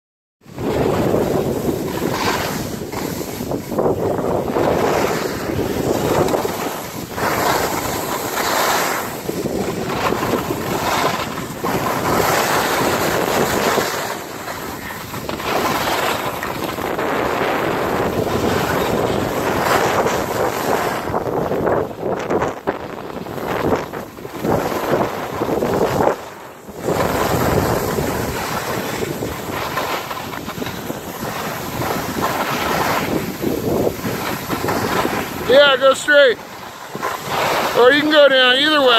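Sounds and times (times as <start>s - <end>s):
skis scraping packed snow: 0.4s - 38.9s
wind rushing over microphone: 0.4s - 38.9s.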